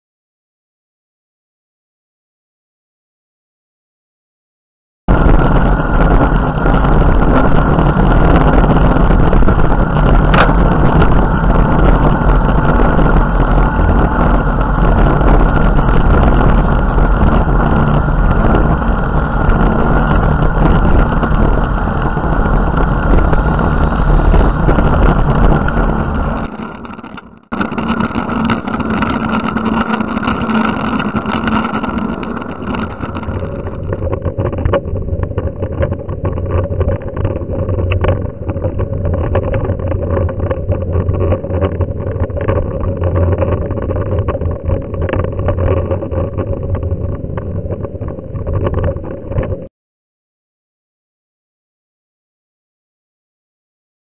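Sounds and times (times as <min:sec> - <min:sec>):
bicycle road noise: 0:05.1 - 0:49.7
wind buffeting microphone: 0:05.1 - 0:49.7.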